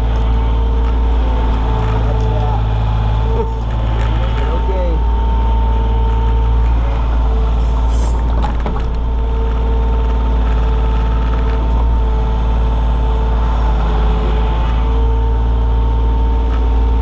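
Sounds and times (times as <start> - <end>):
diesel engine rumble: 0.0 - 17.0
hydraulic whine: 0.0 - 17.0.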